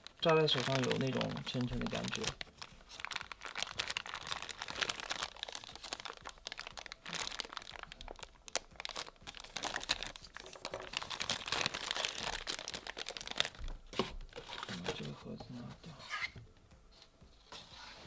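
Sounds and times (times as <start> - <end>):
packaging crinkling: 0.0 - 15.2
sharp packaging crunches: 0.2 - 15.0.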